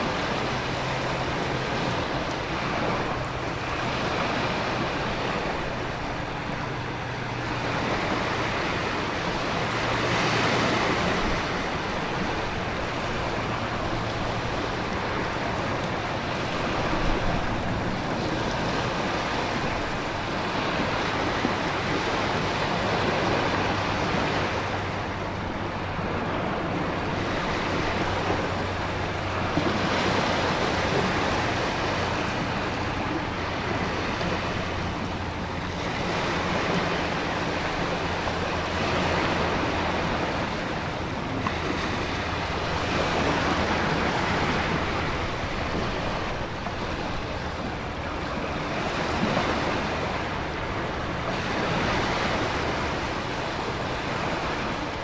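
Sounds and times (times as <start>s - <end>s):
ocean waves crashing: 0.0s - 55.0s
wind: 0.0s - 55.0s.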